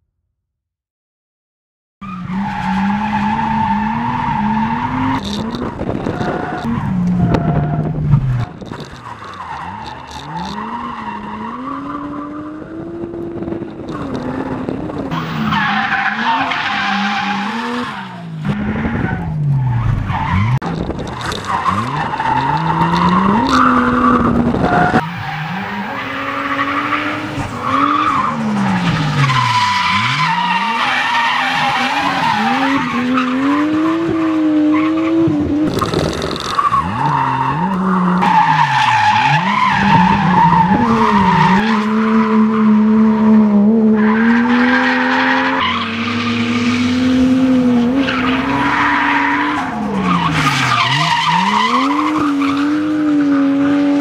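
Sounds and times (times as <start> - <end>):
car engine revving: 2.2 - 54.0.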